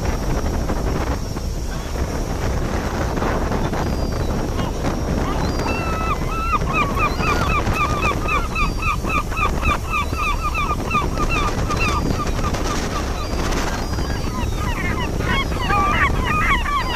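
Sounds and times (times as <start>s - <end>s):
water rushing: 0.0s - 16.9s
wind: 0.0s - 16.9s
gulls calling: 1.7s - 16.9s.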